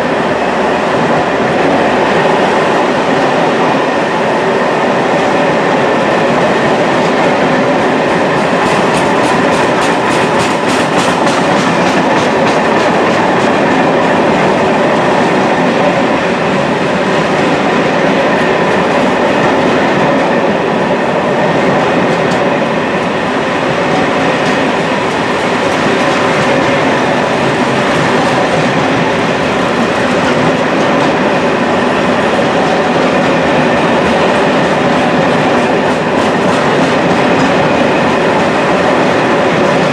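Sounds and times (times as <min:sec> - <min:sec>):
train wheels on rail: 0:00.0 - 0:39.9.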